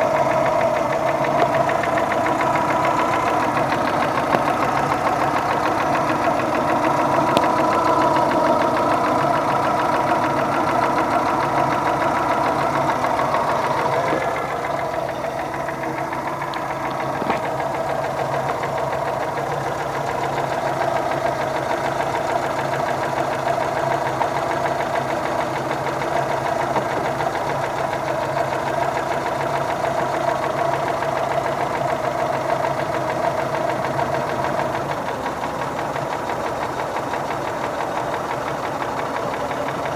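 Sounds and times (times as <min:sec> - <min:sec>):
engine idling with rapid knock: 0:00.0 - 0:39.9.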